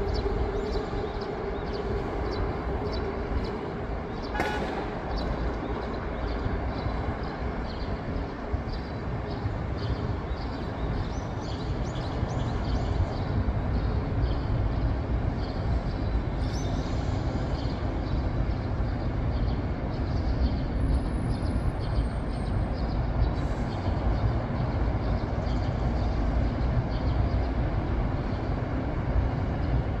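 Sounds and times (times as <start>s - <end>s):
city traffic passing: 0.0s - 30.0s.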